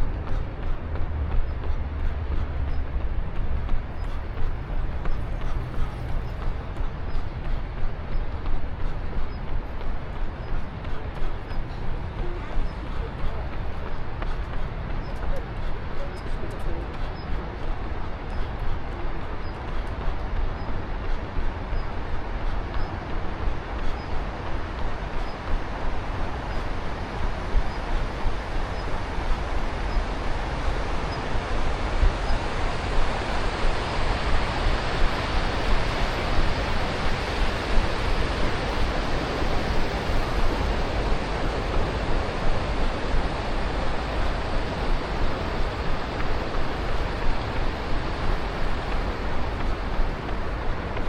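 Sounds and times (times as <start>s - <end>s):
city traffic: 0.0s - 51.0s
wind noise: 0.0s - 51.0s.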